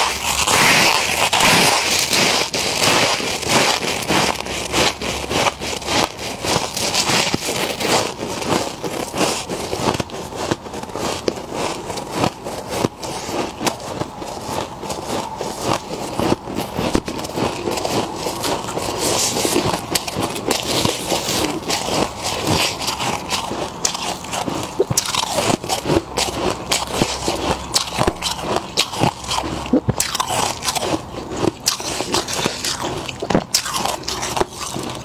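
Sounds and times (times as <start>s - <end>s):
frost crunching and crackling: 0.0s - 35.0s.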